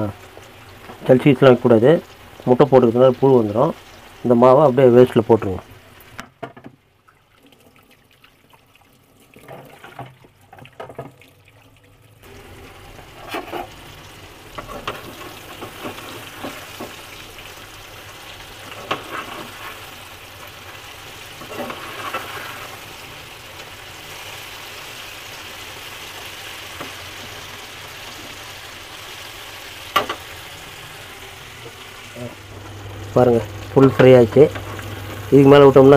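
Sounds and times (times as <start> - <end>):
food sizzling in hot oil: 0.0 - 6.2, 12.2 - 35.9.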